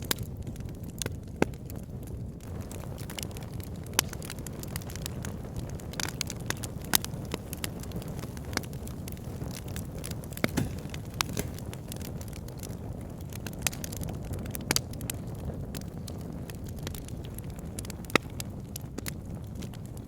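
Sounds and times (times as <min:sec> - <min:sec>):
flames rumbling: 0:00.0 - 0:20.0
logs crackling and popping: 0:00.0 - 0:20.0.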